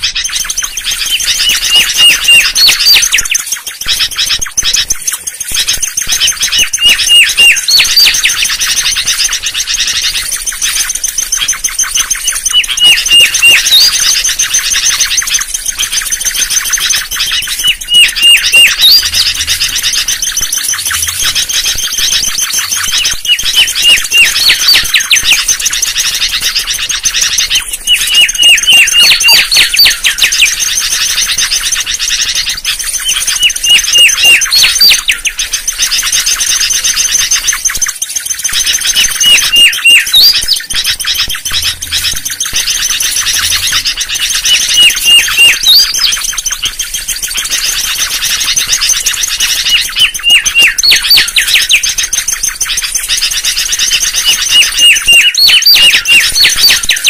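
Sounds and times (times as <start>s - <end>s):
bird whistling song: 0.0s - 57.0s.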